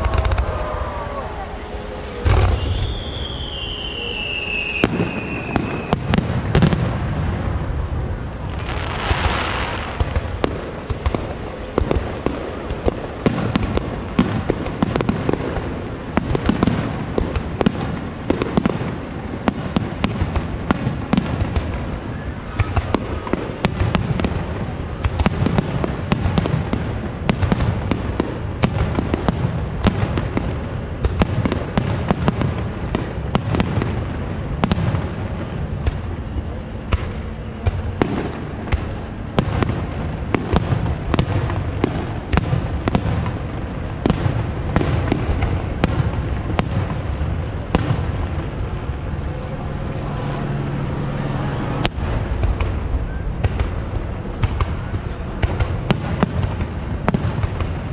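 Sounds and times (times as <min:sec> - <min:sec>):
firework bangs: 0:00.0 - 0:57.9
firework crackle: 0:00.0 - 0:57.9
rumble of firework launches: 0:00.0 - 0:57.9.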